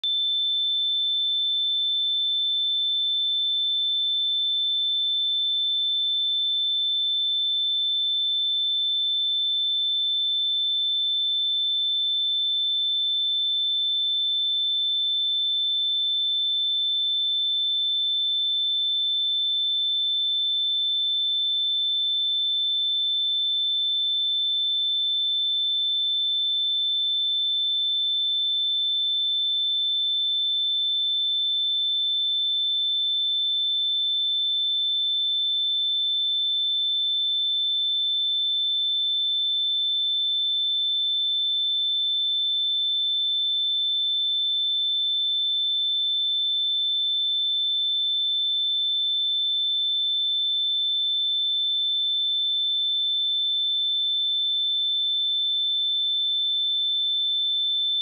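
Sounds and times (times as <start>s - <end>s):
high-pitched sine test tone: 0.0s - 58.0s.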